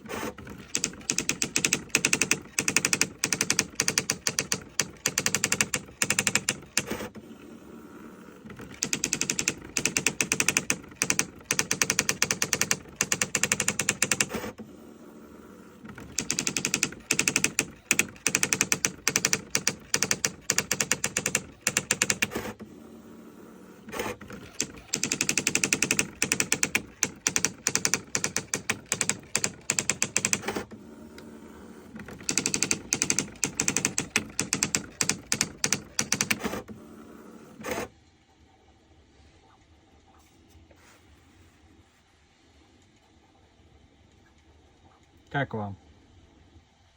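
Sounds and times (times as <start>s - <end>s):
electronic typewriter printing: 0.0s - 37.9s.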